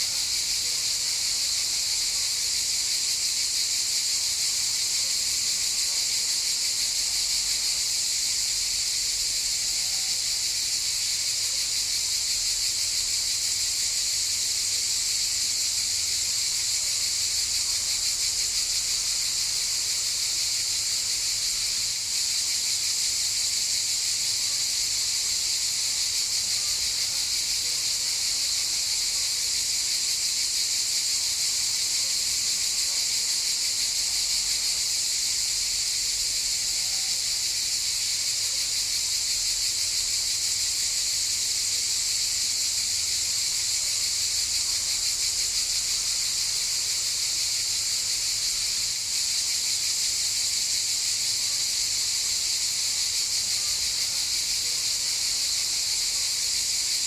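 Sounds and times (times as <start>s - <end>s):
cicadas buzzing: 6.3s - 57.0s.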